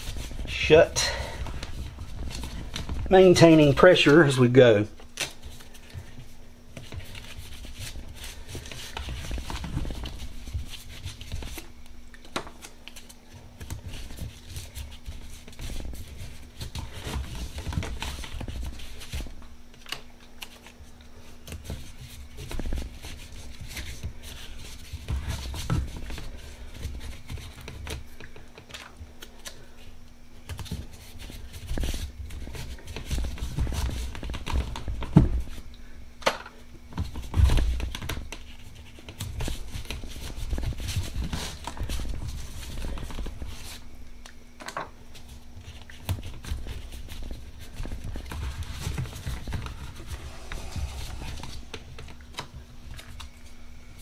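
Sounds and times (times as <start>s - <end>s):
faint steady hum: 0.0s - 54.0s
tape crinkling and rustling: 0.0s - 54.0s.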